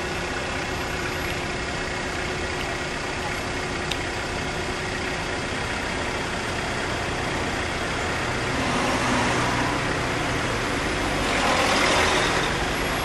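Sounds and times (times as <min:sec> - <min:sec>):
cars moving slowly past: 0:00.0 - 0:13.0.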